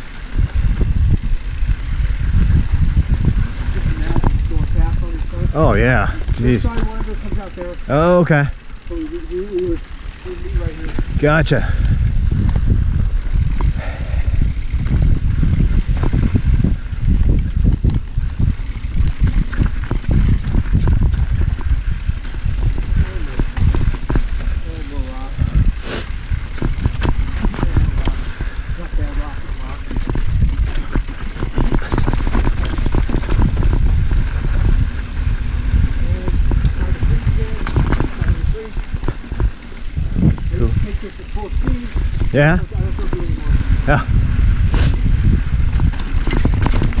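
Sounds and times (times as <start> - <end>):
wind on microphone: 0.0 - 8.5, 9.3 - 47.0
tyres on dirt: 0.0 - 43.8, 44.4 - 47.0
bike knocking and rattling: 0.0 - 47.0.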